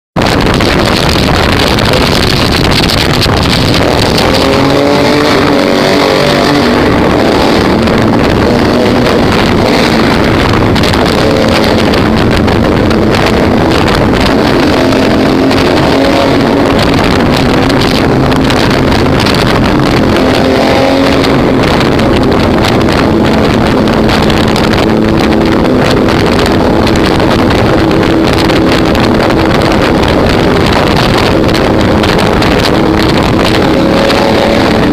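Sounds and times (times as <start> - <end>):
wind rushing over microphone: 0.1 - 34.9
vehicle engine accelerating: 0.2 - 34.9.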